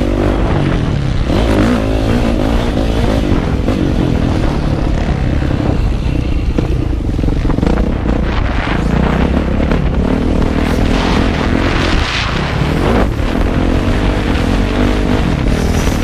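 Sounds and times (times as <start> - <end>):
heavy low rumble: 0.0 - 16.0
motorcycle engine revving: 0.0 - 16.0.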